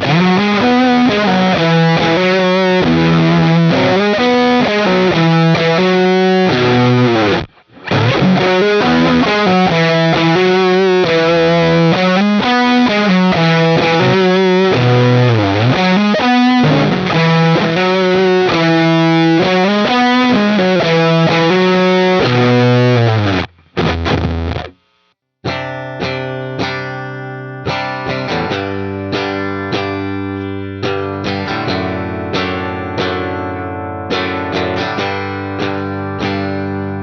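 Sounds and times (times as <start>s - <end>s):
clean guitar picked notes and chords: 0.0s - 24.8s, 25.4s - 37.0s
overdriven electric guitar riff: 0.0s - 37.0s.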